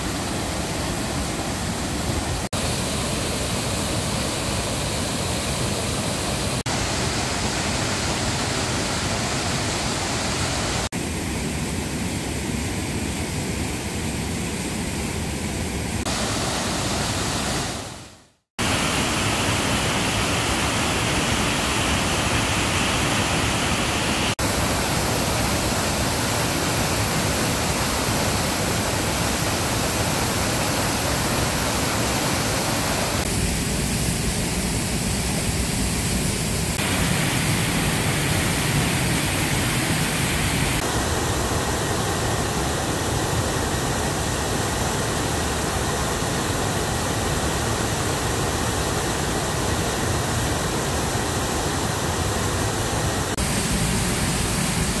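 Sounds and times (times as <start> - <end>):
waterfall rushing: 0.0 - 10.9, 15.9 - 55.0.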